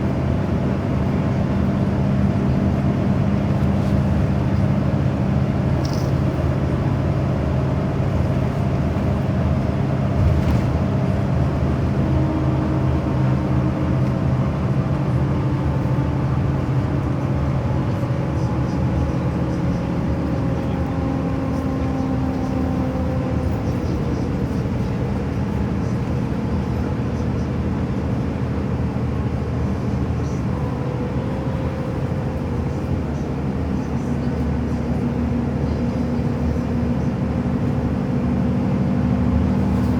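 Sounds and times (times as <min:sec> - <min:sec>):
vehicle engine hum: 0:00.0 - 0:39.9.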